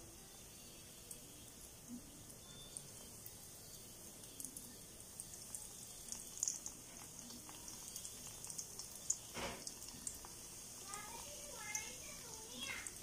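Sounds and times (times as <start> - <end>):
gentle sizzling in oil: 0.0 - 13.0
small crackles and pops: 1.0 - 13.0.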